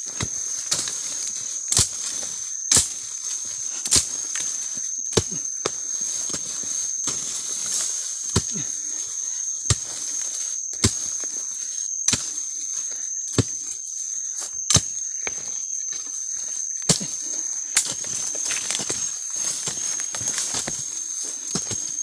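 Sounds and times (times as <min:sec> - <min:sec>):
steady high-pitched whine: 0:00.0 - 0:22.0.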